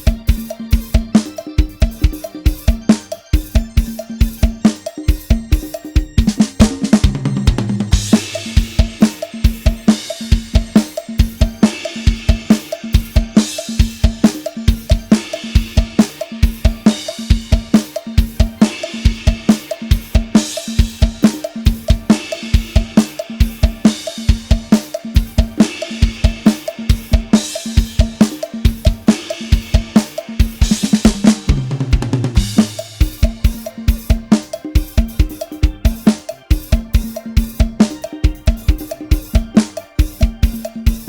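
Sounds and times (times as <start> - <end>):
drum kit groove: 0.0 - 41.0
tom fill: 0.0 - 41.0.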